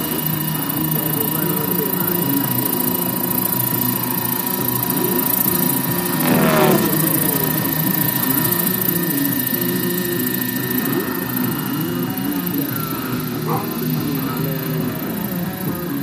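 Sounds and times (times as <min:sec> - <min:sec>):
model helicopter flying: 0:00.0 - 0:16.0.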